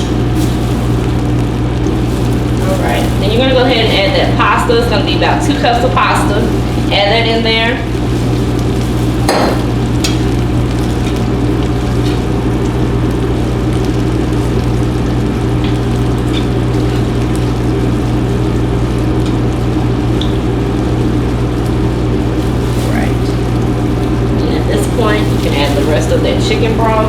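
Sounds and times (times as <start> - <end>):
cheese sauce sizzling in pan: 0.0 - 27.0
steady low hum: 0.0 - 27.0.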